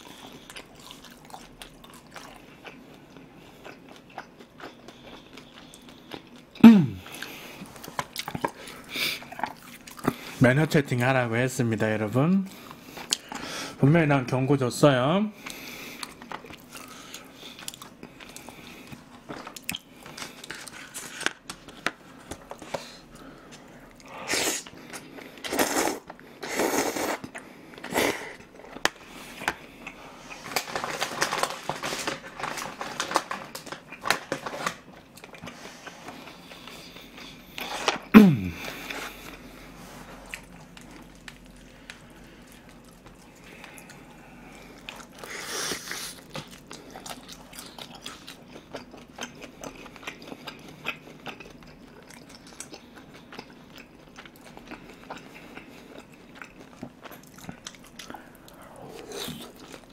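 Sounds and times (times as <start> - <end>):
person chewing noodles: 0.0 - 10.4, 12.5 - 13.8, 15.4 - 59.9.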